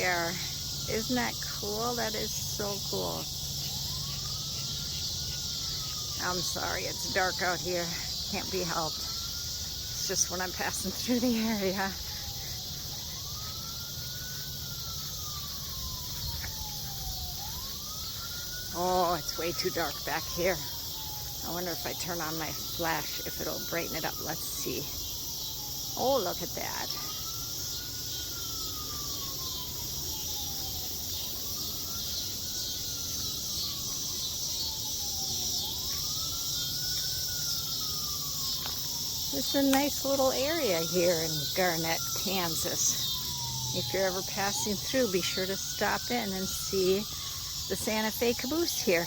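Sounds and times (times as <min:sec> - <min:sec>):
cicadas chorus: 0:00.0 - 0:49.0
siren wailing: 0:00.0 - 0:49.0.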